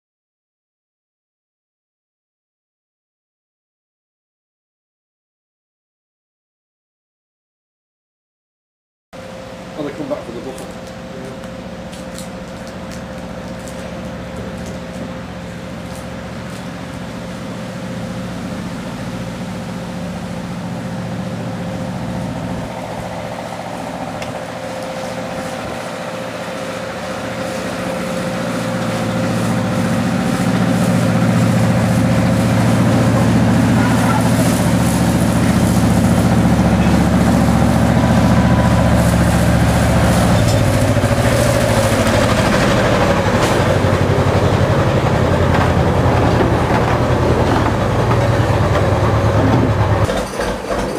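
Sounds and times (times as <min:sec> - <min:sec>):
locomotive engine running: 0:09.2 - 0:50.9.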